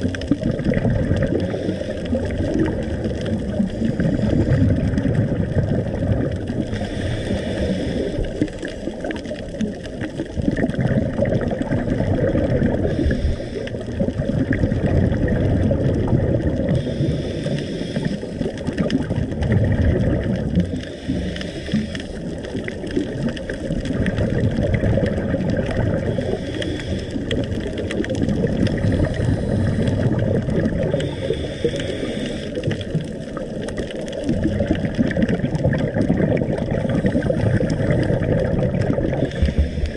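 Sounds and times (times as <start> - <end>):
scuba bubbles: 0.0 - 39.9
underwater rumble and gurgle: 0.0 - 39.9.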